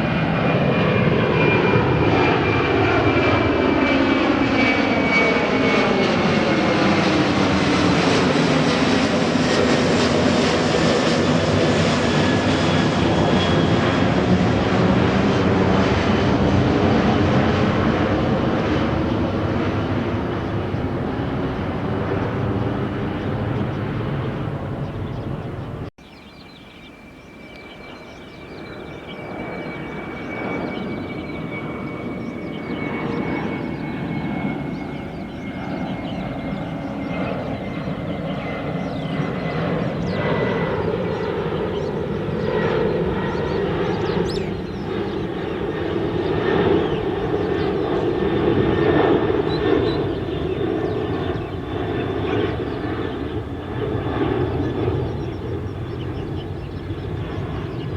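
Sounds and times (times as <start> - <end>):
high jet engine whine: 0.0 - 57.9
jet engines rumbling on takeoff: 0.0 - 57.9.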